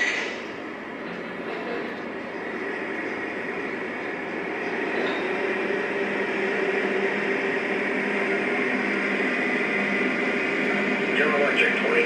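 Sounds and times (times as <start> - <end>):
model train diesel locomotive drone: 0.0 - 12.0
model train wheels on track: 0.0 - 12.0.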